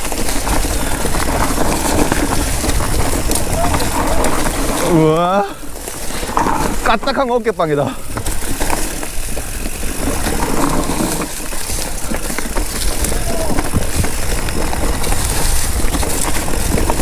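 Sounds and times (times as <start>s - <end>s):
bike rattling and clacking: 0.0s - 17.0s
tyres rolling over dirt and rocks: 0.0s - 17.0s.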